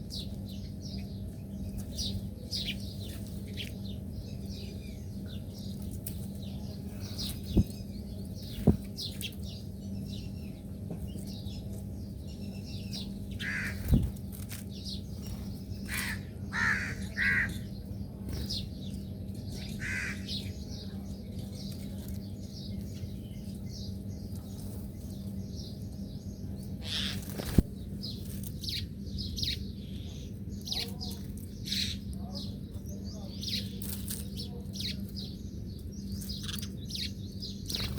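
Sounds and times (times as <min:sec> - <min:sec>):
steady low hum: 0:00.0 - 0:37.9
wild birds chirping: 0:00.0 - 0:37.9.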